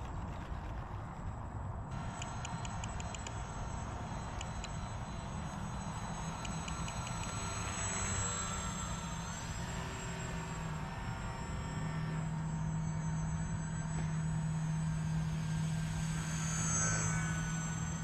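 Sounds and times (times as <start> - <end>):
model plane motor whining: 1.9 - 18.0.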